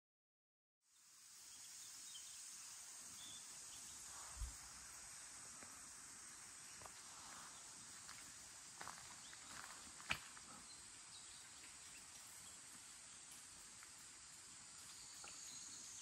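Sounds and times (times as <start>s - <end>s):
insects chirring: 0.9s - 16.0s.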